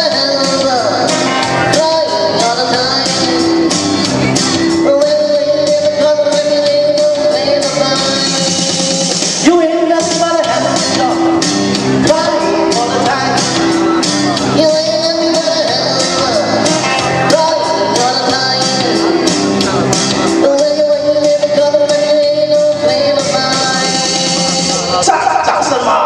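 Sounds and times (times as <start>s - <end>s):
electric guitar: 0.0s - 26.0s
person singing: 0.0s - 26.0s.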